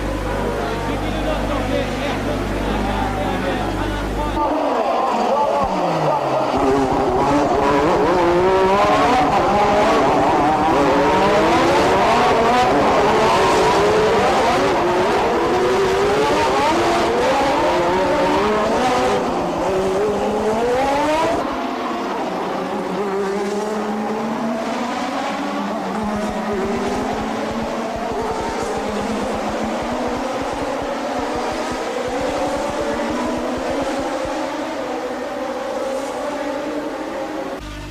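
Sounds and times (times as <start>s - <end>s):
racing car engines accelerating: 0.0s - 37.9s.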